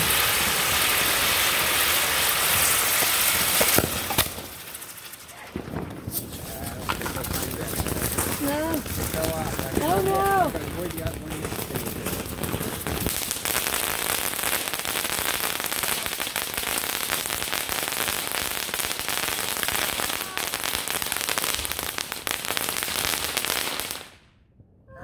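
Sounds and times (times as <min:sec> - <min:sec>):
fireworks crackling hiss: 0:00.0 - 0:24.2.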